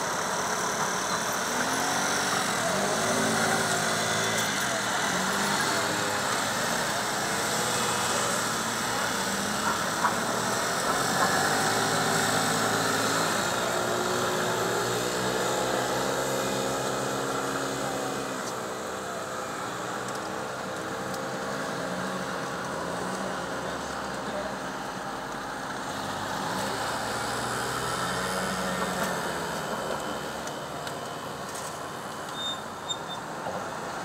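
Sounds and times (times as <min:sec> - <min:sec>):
motor scooter engines passing: 0:00.0 - 0:34.0.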